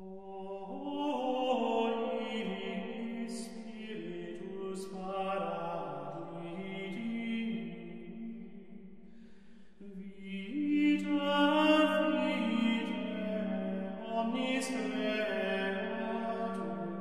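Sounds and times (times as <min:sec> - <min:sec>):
plainchant singing: 0:00.0 - 0:08.5, 0:09.8 - 0:17.0.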